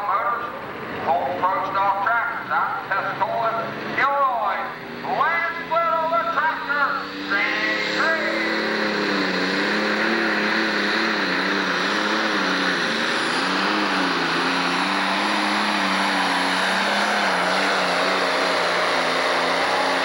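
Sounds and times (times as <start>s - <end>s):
diesel engine at full throttle: 0.0s - 20.0s.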